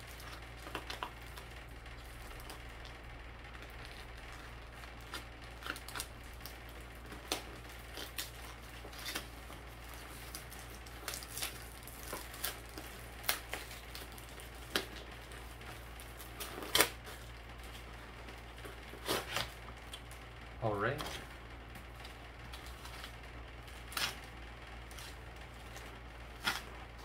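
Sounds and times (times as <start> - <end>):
wrapping paper crinkling and tearing: 0.0 - 27.0.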